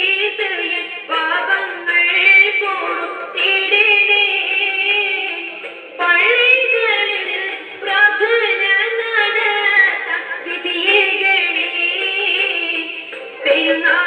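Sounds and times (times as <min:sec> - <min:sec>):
boy singing: 0:00.0 - 0:14.0.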